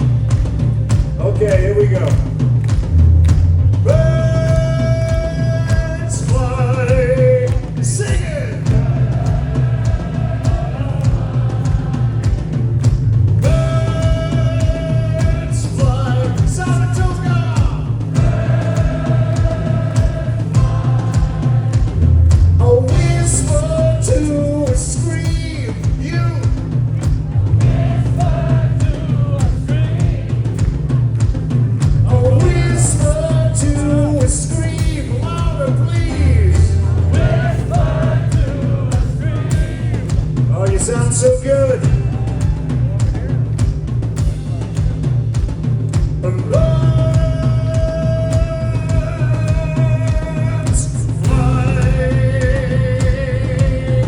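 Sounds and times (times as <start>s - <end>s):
bass guitar: 0.0s - 54.0s
drum kit steady beat: 0.0s - 54.0s
man singing lead vocal: 3.8s - 12.6s, 13.4s - 30.7s, 31.8s - 43.5s, 46.2s - 54.0s.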